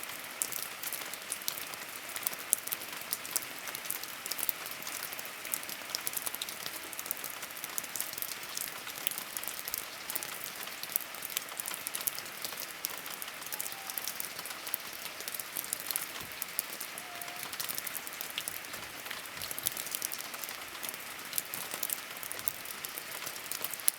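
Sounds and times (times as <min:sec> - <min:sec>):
rain pattering: 0:00.0 - 0:23.9.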